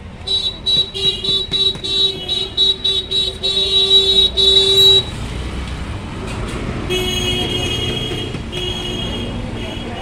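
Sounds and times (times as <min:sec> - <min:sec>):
street noise: 0:00.0 - 0:10.0
vehicle horn honking: 0:00.2 - 0:05.2, 0:06.9 - 0:10.0.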